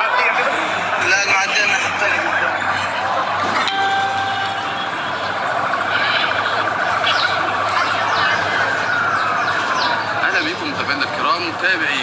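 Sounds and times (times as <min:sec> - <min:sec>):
emergency vehicle siren warbling: 0:00.0 - 0:11.2.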